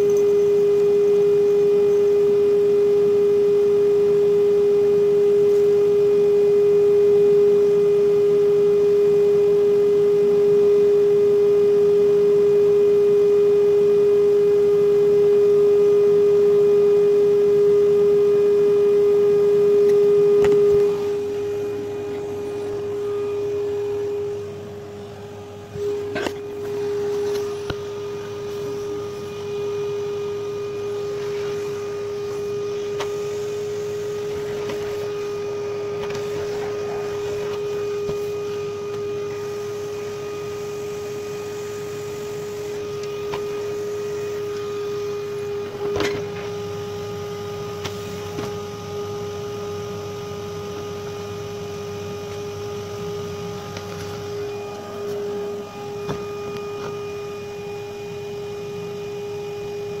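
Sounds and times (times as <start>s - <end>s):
steady electrical hum: 0.0s - 60.0s.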